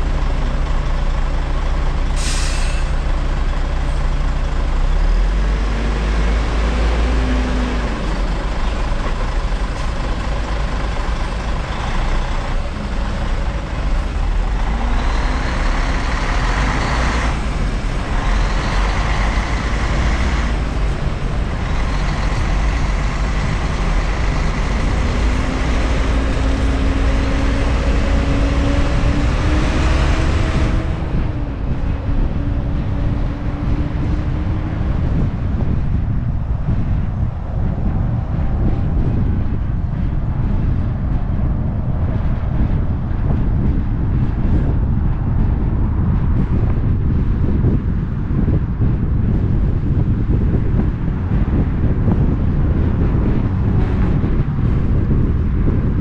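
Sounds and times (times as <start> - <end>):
passing engines humming: 0.0 - 56.0
tyre and traffic noise: 0.0 - 56.0
wind rumble on microphone: 0.0 - 56.0.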